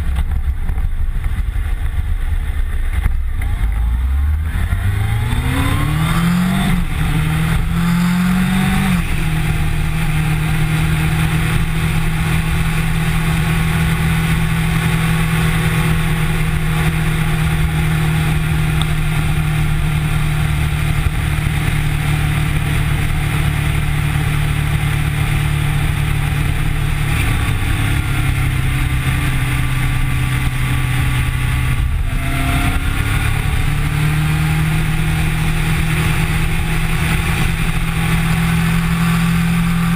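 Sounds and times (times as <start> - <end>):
motorcycle engine: 0.0 - 39.9
rushing noise: 0.0 - 39.9.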